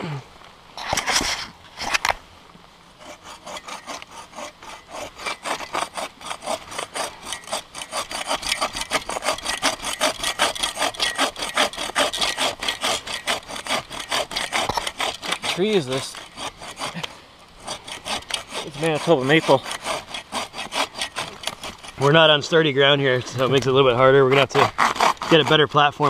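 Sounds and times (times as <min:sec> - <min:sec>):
bow saw cutting log: 0:03.0 - 0:22.7, 0:24.1 - 0:26.0.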